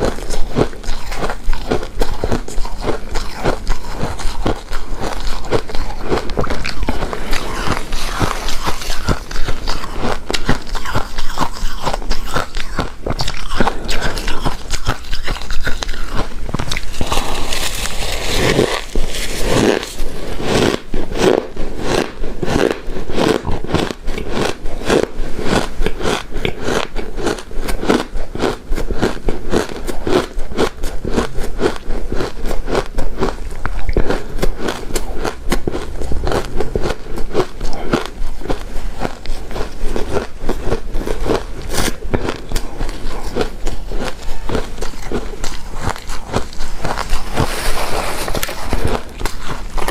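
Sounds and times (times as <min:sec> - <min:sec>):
chewing crunchy ice: 0:00.0 - 0:49.9.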